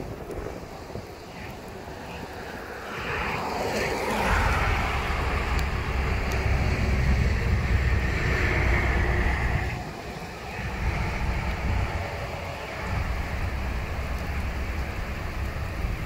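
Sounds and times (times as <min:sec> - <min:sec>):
rain hiss: 0:00.0 - 0:16.0
thunder rumble: 0:00.0 - 0:16.0.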